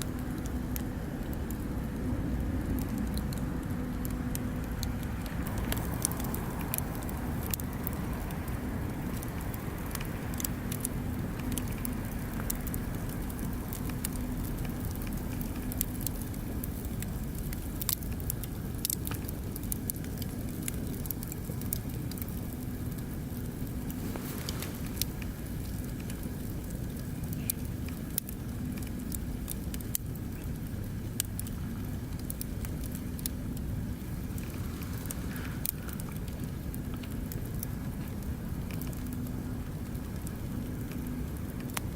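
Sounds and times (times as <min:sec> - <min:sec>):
bonfire crackling and popping: 0:00.0 - 0:41.9.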